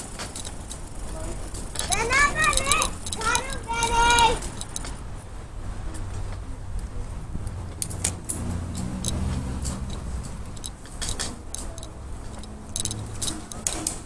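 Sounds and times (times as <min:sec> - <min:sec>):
bicycle metallic clicks and rattles: 0:00.0 - 0:14.0
wind and tyre rumble: 0:00.0 - 0:14.0.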